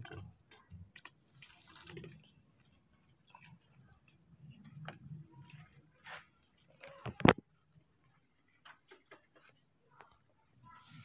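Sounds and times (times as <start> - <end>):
soft rustles: 1.2 - 11.0.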